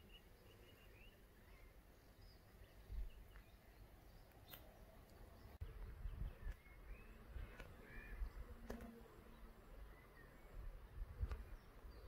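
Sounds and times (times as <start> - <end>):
faint bird chirps: 0.0 - 8.5, 9.2 - 12.0.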